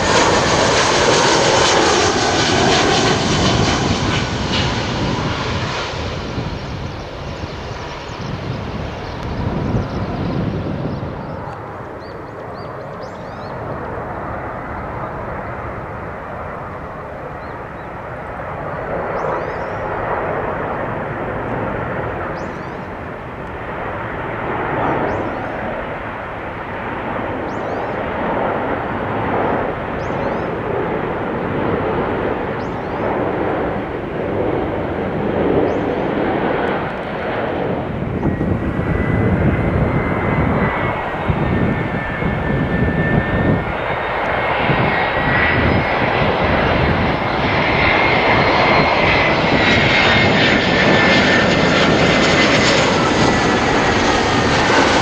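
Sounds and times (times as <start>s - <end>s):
high jet engine whine: 0.0s - 55.0s
jet airliner roar: 0.0s - 55.0s.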